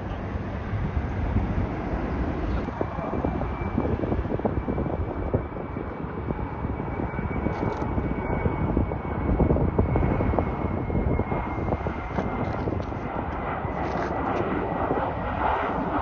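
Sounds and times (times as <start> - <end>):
faint high jet whine: 0.0 - 16.0
jet engines rumbling: 0.0 - 16.0.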